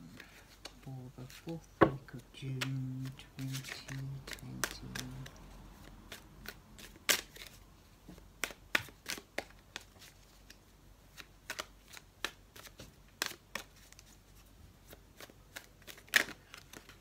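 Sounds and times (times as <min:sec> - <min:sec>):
cards shuffled by hand: 0:00.1 - 0:17.0.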